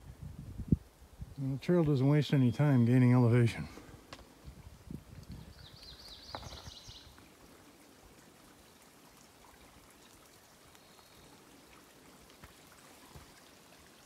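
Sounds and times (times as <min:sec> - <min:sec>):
forest ambience hiss: 0:00.7 - 0:14.0.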